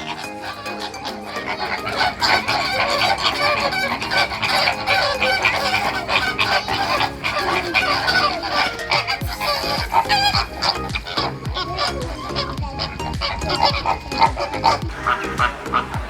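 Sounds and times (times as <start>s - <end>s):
poultry clucking and honking: 0.0s - 16.0s.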